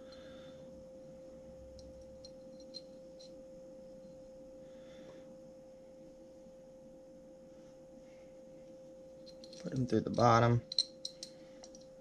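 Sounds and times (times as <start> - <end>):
faint hum tone: 0.0 - 12.0.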